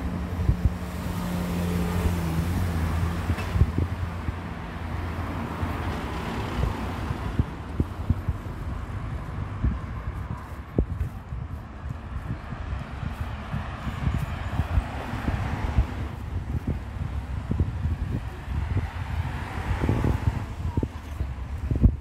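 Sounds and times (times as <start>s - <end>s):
vehicle engine hum: 0.0s - 22.0s.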